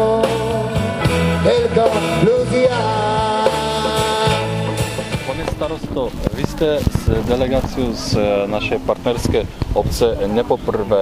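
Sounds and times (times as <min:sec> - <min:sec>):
strummed acoustic guitar: 0:00.0 - 0:09.3.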